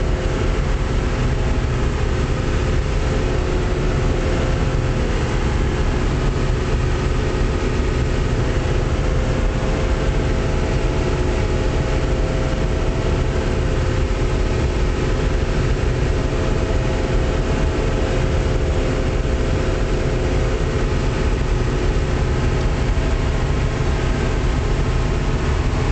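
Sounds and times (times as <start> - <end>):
combine engine rumble: 0.0 - 25.9
machinery whine: 0.0 - 25.9.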